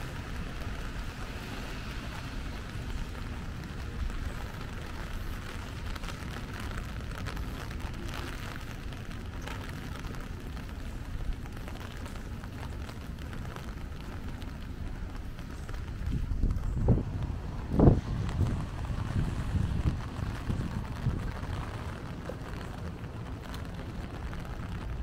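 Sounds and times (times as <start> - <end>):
rain on umbrella: 0.0 - 25.0.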